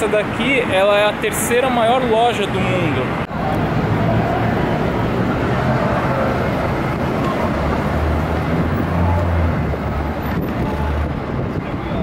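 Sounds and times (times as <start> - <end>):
street traffic: 0.0 - 12.0
large vehicle engine rumble: 2.0 - 12.0.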